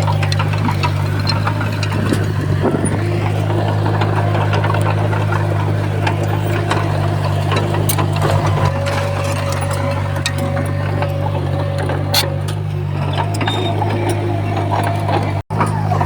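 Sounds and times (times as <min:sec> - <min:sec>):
clicks and rattles: 0:00.0 - 0:16.0
heavy diesel engine droning: 0:00.0 - 0:16.0.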